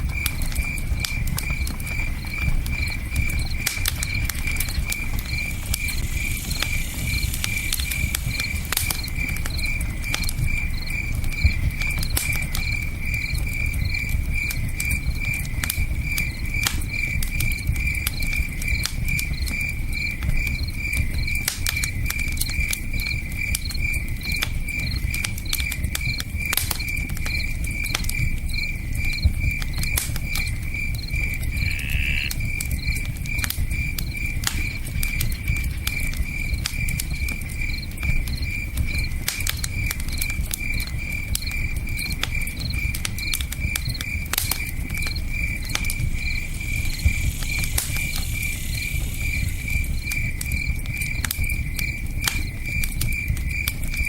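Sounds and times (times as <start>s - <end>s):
campfire crackling and popping: 0.0s - 54.0s
cricket chirping: 0.0s - 54.0s.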